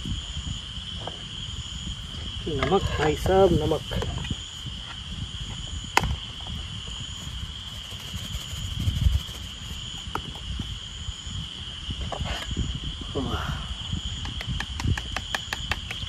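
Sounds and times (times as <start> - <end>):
insects chirring: 0.0 - 16.0
wind buffeting microphone: 0.0 - 16.0.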